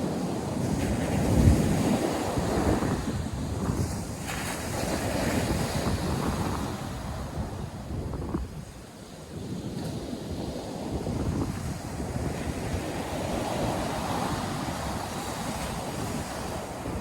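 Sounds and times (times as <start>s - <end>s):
ocean surf breaking on shore: 0.0s - 17.0s
wind buffeting the microphone: 0.0s - 17.0s.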